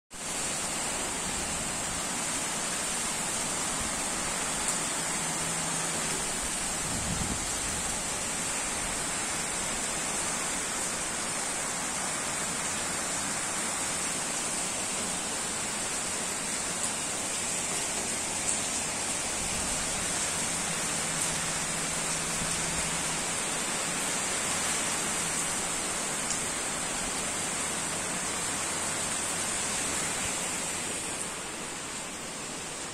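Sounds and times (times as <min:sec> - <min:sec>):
heavy rain pouring: 0:00.1 - 0:32.9.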